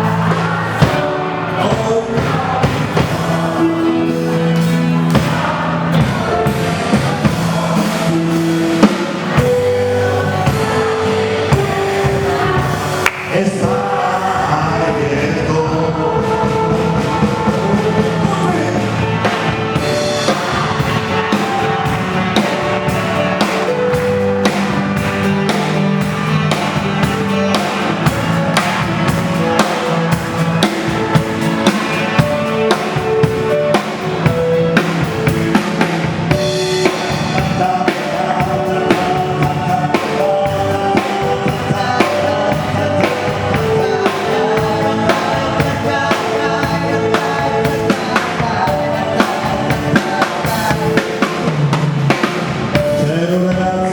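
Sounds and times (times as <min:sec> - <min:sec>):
instrumental music with drum beat: 0:00.0 - 0:14.5, 0:15.7 - 0:53.9.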